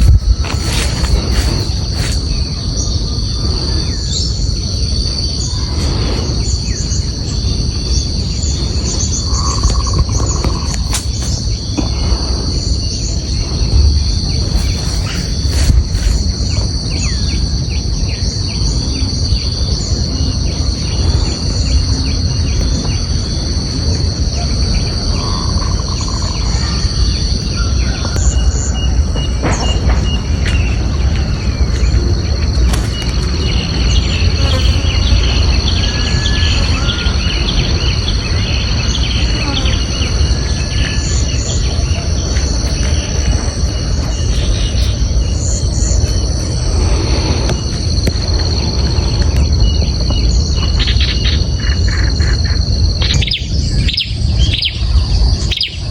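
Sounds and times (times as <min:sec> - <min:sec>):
bird and insect chirps: 0:00.0 - 0:55.9
constant low rumble: 0:00.0 - 0:55.9
insects droning: 0:00.0 - 0:55.9.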